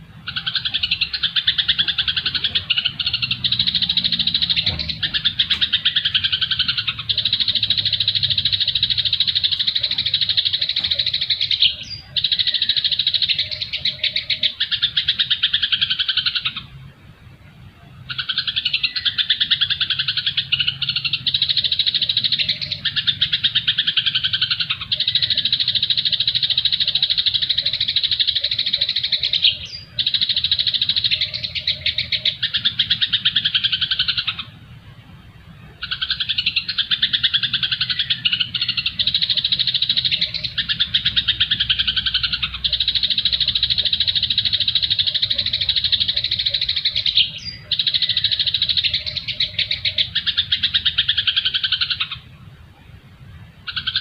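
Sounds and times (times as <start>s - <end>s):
recorded songbird chattering: 0.0s - 54.0s.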